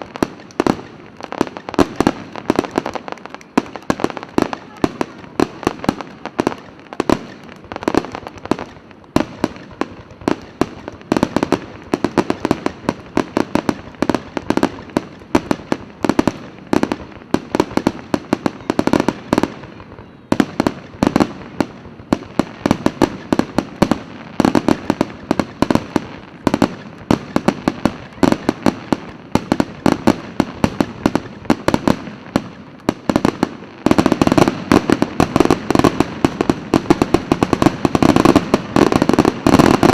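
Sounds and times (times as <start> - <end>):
fireworks bangs and rumble: 0.0 - 39.9.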